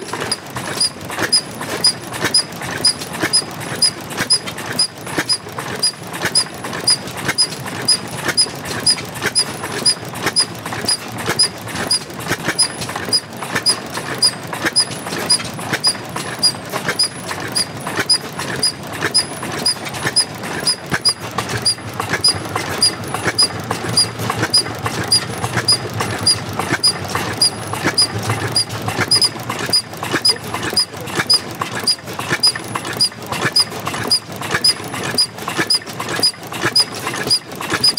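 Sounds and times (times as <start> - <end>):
old stationary engine knocking: 0.0 - 37.9.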